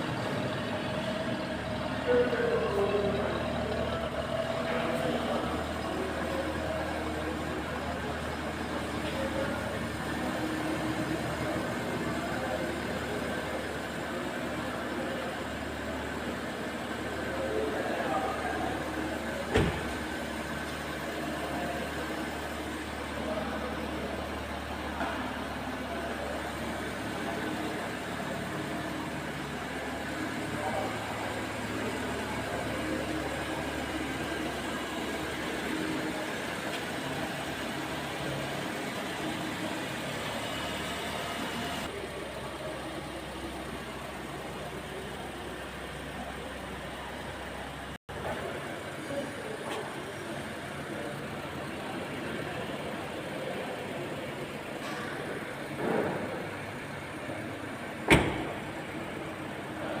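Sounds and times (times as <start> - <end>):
car noise: 0.0 - 60.0.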